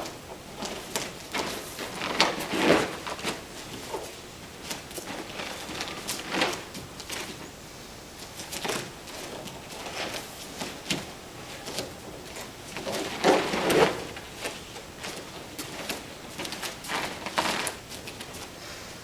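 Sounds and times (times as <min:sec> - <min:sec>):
feet and cloth rustling on mat: 0:00.0 - 0:19.0.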